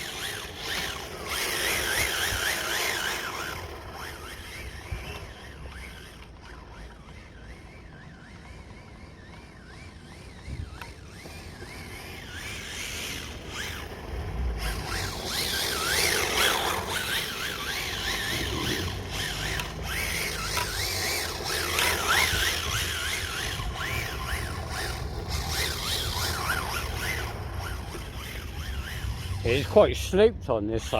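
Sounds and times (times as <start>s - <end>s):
rc car motor whining: 0.0s - 30.9s.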